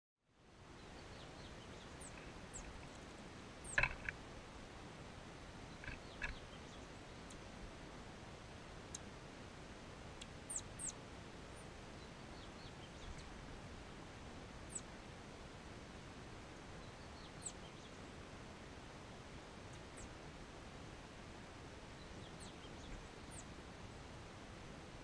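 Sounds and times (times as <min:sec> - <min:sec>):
faint steady hiss: 0:00.2 - 0:25.0
songbirds chirping: 0:00.2 - 0:25.0.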